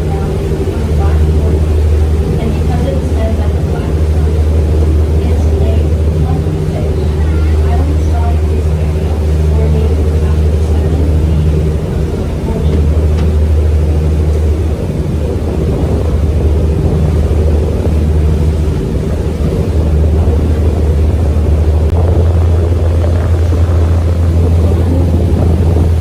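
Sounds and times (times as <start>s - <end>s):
boat engine droning: 0.0s - 26.0s
rushing noise: 0.0s - 26.0s.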